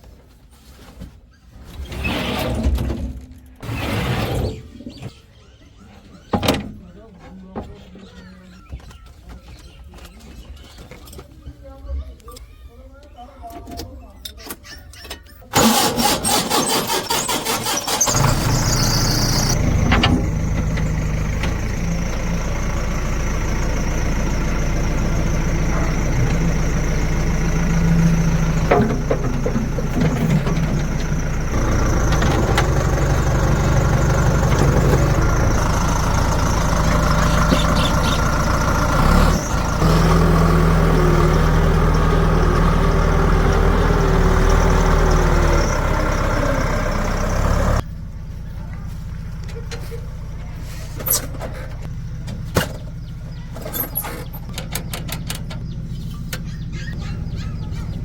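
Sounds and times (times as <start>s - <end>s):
heavy diesel engines under load: 0.0s - 11.7s, 13.6s - 58.0s.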